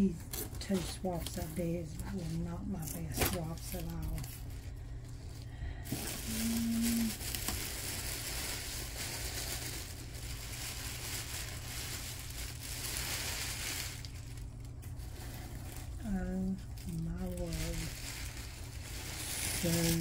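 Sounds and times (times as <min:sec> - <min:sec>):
low hum: 0:00.0 - 0:20.0
packaging crinkling and tearing: 0:00.0 - 0:20.0.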